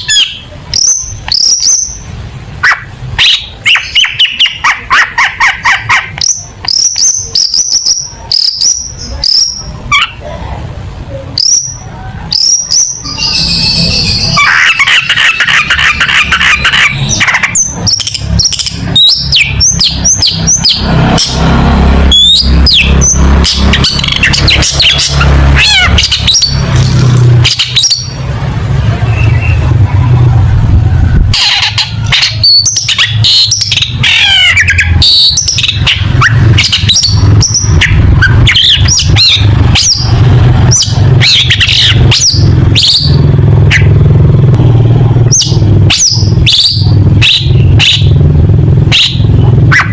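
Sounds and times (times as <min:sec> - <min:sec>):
bird singing loudly: 0:00.0 - 0:10.2, 0:11.4 - 0:26.7, 0:31.3 - 0:43.9, 0:45.3 - 0:49.9.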